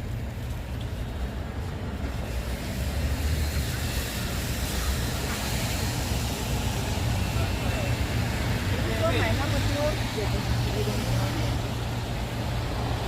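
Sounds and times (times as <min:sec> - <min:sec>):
tyre hiss on wet road: 0:02.0 - 0:13.0.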